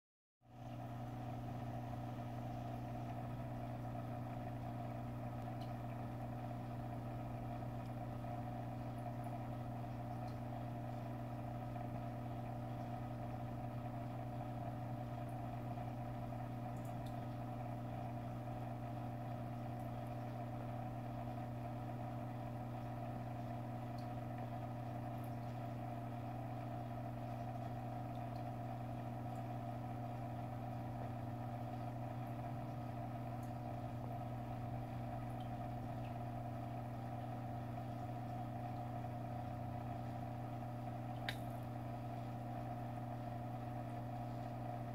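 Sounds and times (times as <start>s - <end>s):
aquarium equipment electrical hum: 0.4s - 44.9s.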